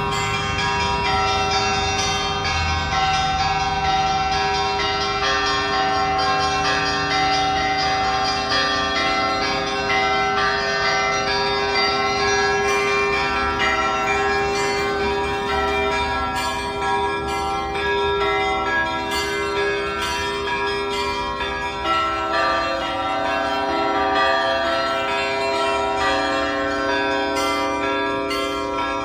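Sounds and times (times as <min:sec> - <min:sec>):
church bells pealing: 0:00.0 - 0:29.0
deep bell tone: 0:00.0 - 0:29.0.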